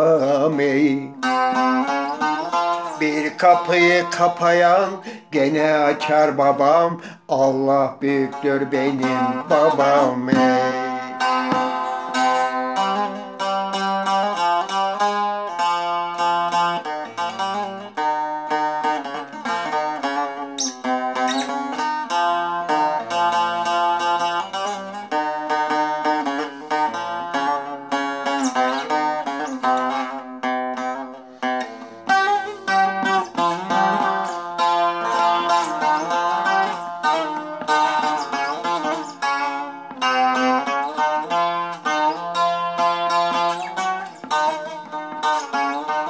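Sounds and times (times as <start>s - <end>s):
plucked lute with drone strings: 0.0s - 46.0s.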